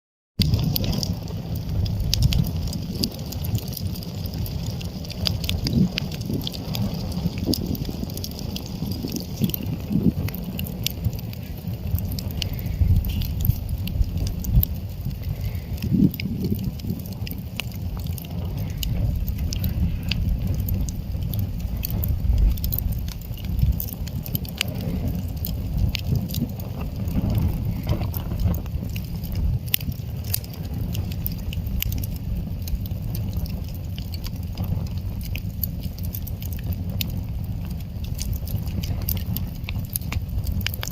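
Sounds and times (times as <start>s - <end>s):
low rumble: 0.4s - 40.9s
sharp pops from burning logs: 0.4s - 40.9s
wood fire crackling: 0.4s - 40.9s.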